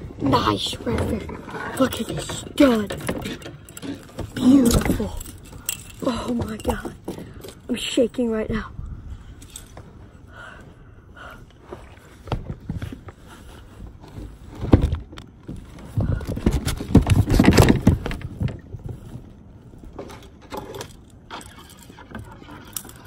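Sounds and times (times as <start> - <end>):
handling knocks and rustling: 0.0 - 8.4, 11.7 - 23.0.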